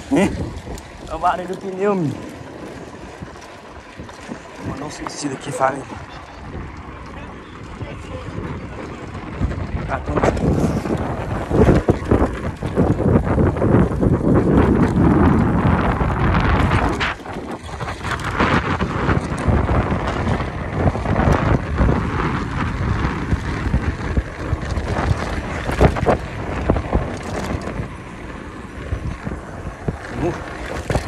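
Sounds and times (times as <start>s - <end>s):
bicycle tyres on rough asphalt: 0.0s - 31.0s
bike knocks and rattles: 0.0s - 31.0s
wind buffeting microphone: 0.0s - 31.0s.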